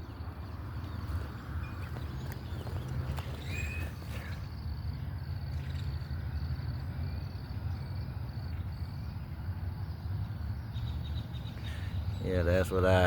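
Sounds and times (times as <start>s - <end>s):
insects chirping in pulsed trills: 0.0s - 13.0s.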